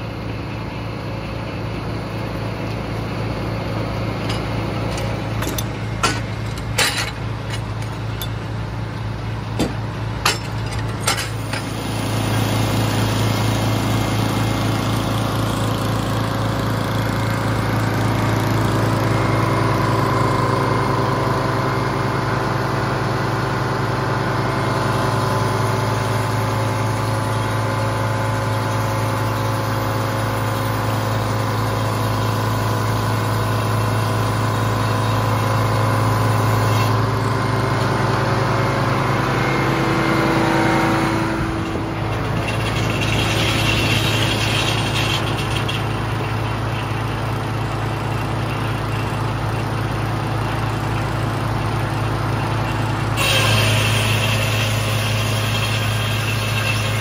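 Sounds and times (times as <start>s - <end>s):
sawmill running: 0.0s - 57.0s.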